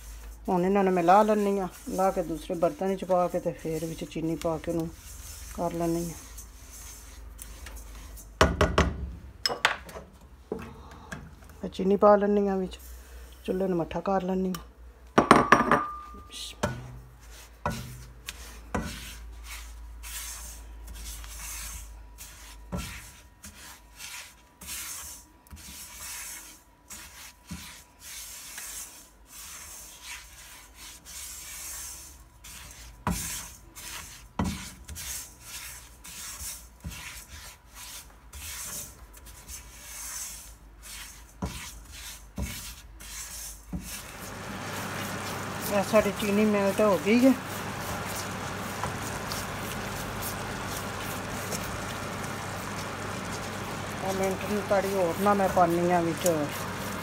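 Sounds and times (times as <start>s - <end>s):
spatula scraping sugar in pot: 0.0s - 8.4s, 16.3s - 57.0s.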